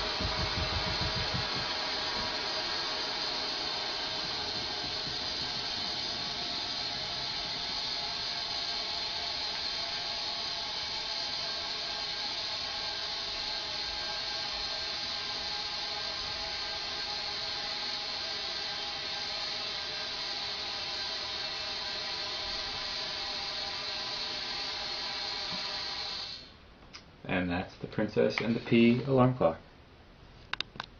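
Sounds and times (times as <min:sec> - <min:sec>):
compressed air hissing: 0:00.0 - 0:26.6, 0:28.2 - 0:29.2.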